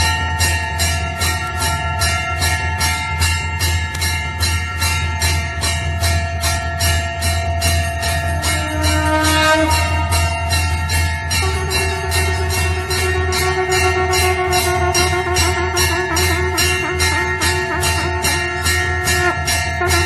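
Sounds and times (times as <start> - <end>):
steady low drone: 0.0 - 20.0
temple bell rung rapidly: 0.0 - 20.0.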